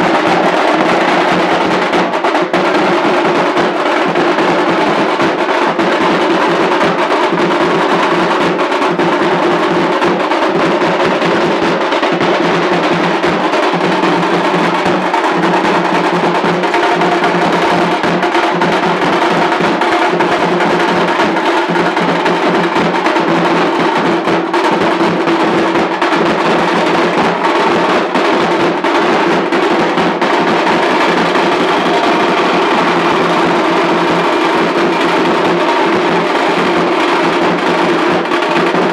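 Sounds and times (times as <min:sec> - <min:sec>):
music with fast drumming: 0:00.0 - 0:38.9.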